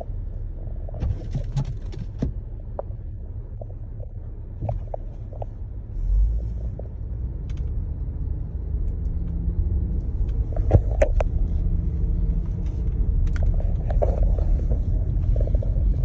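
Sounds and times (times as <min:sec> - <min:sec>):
car driving on snowy road: 0:00.0 - 0:16.0.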